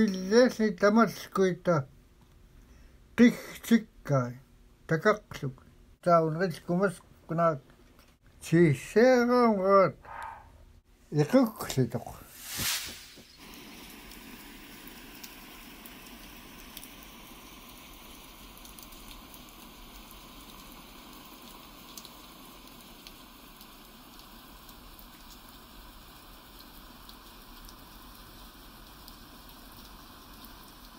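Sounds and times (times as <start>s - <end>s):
steady quiet hiss: 0.0s - 27.9s.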